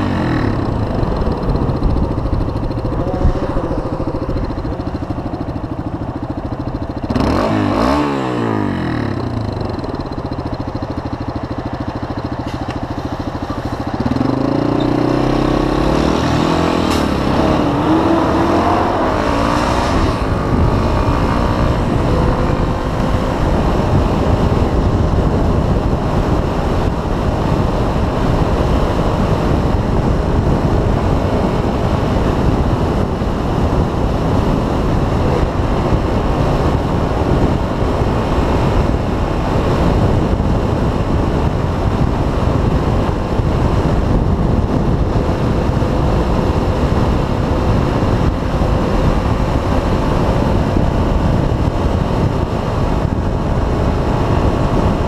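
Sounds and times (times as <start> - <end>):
heavy wind noise on microphone: 0.0 - 55.0
motorcycle engine revving: 0.0 - 55.0.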